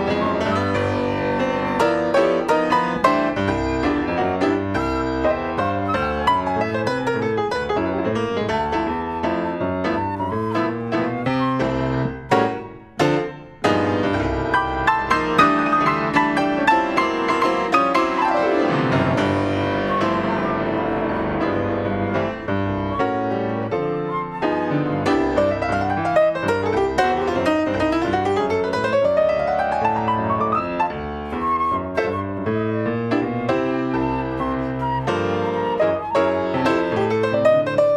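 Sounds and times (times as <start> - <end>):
piano glissando: 0.0 - 37.9
swing jazz piano duet: 0.0 - 37.9.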